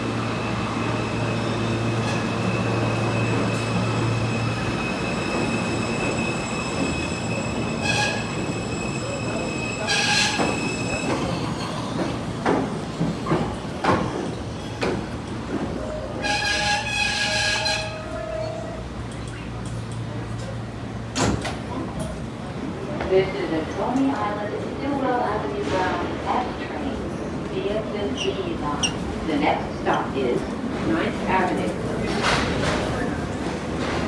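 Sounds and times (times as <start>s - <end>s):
subway car running noise: 0.0s - 34.0s.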